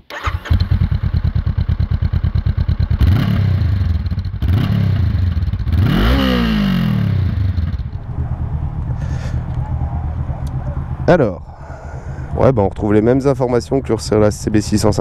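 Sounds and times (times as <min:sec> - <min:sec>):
motorcycle engine revving: 0:00.1 - 0:12.5
motorcycle engine idling: 0:00.1 - 0:15.0.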